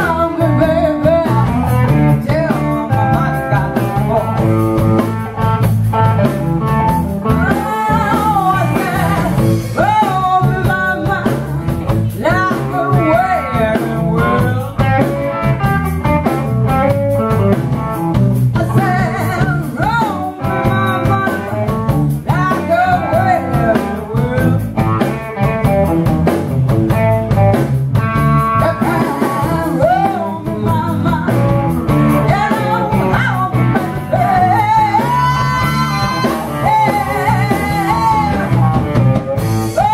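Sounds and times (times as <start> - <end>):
woman singing into a microphone: 0.0 - 16.5, 18.5 - 25.5, 28.4 - 39.0, 39.6 - 39.9
blues rock band: 0.0 - 39.9
guitar: 0.0 - 39.9
steady driving beat: 0.0 - 39.9.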